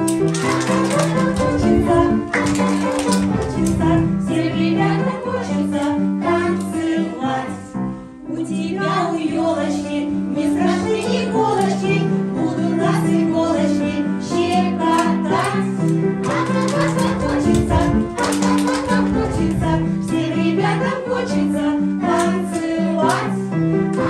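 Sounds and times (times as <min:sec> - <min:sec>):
children's song with bouncing bass: 0:00.0 - 0:07.8, 0:08.4 - 0:24.0.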